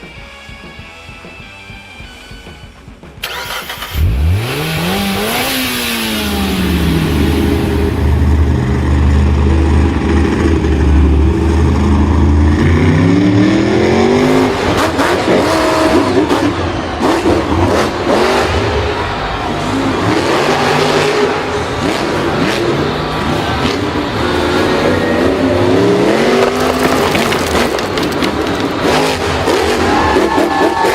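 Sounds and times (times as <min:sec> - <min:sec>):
vehicle engine revving: 0:03.2 - 0:30.9.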